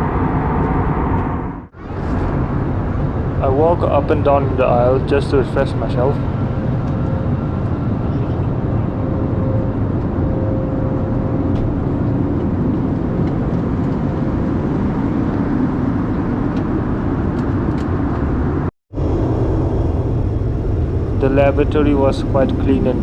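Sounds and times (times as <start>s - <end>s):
airplane cabin roar: 0.0s - 23.0s.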